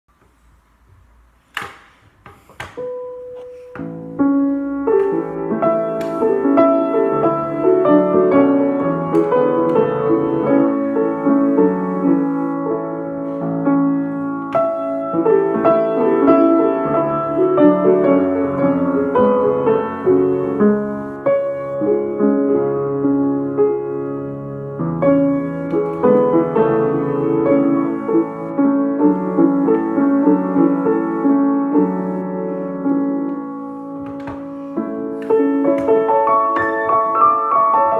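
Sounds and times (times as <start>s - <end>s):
piano playing melody over chords: 2.8s - 37.9s.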